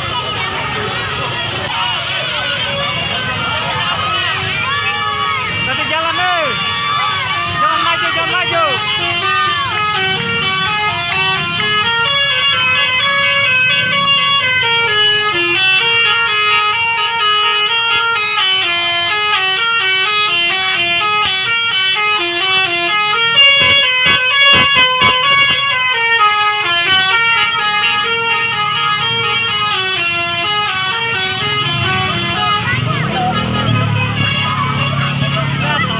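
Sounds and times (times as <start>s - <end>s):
bus multi-tone horn melody: 0.0s - 35.9s.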